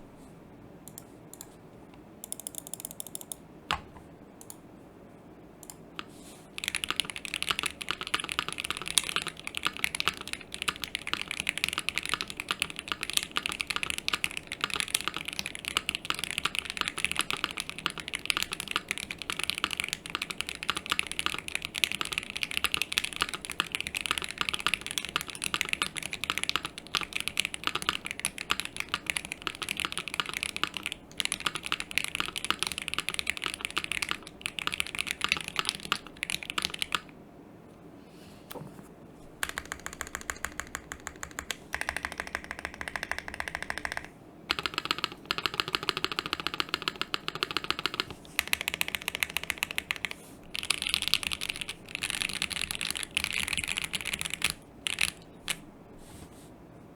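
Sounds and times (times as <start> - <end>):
mechanical keyboard typing: 2.2 - 3.8, 6.6 - 37.1, 39.4 - 55.6.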